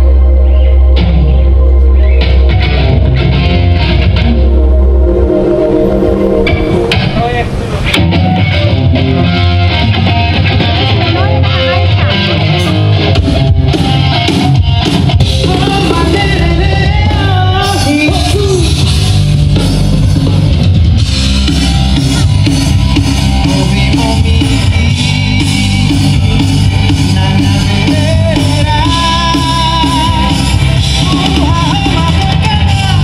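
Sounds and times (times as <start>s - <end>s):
amplified rock band playing: 0.0s - 33.0s.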